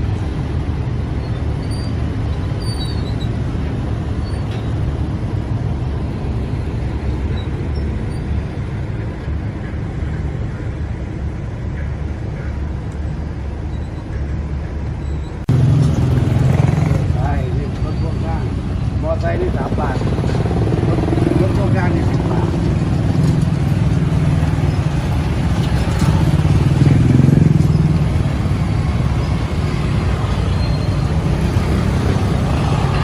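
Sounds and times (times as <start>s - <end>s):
ferry engines rumbling: 0.0s - 33.0s.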